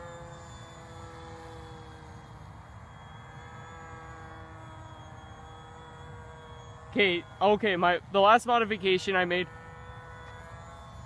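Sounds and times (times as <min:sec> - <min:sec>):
distant rc plane motor whine: 0:00.0 - 0:11.0.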